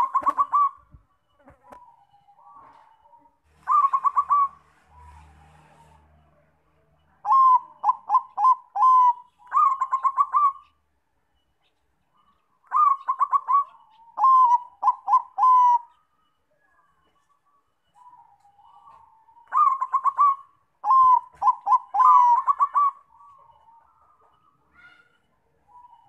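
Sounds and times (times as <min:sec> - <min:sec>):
dove cooing: 0:00.0 - 0:06.2, 0:07.2 - 0:10.8, 0:12.2 - 0:16.0, 0:18.0 - 0:26.0.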